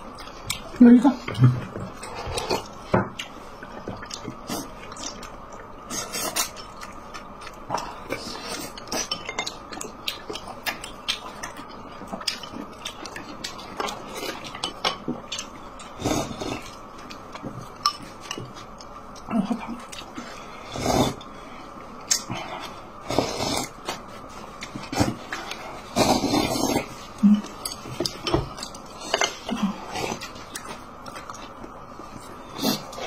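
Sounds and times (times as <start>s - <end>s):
chewing: 0.0s - 21.3s, 22.0s - 33.0s.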